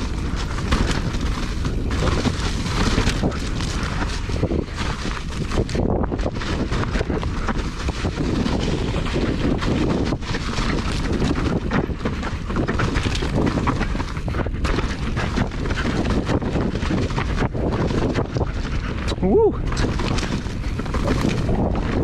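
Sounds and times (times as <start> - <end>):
bike rattling knocks: 0.0 - 19.0, 19.6 - 22.0
tyre noise on dirt trail: 0.0 - 22.0
wind buffeting microphone: 0.0 - 22.0.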